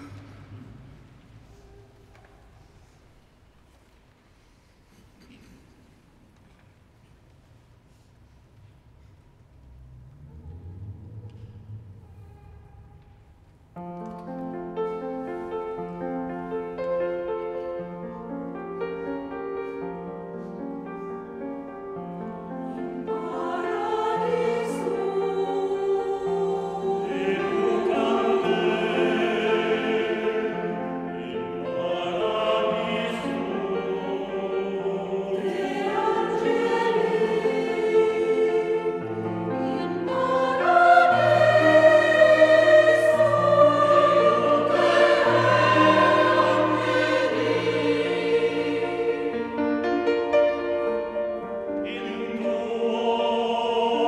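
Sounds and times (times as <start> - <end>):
choir singing in echoing hall: 0.0 - 54.0.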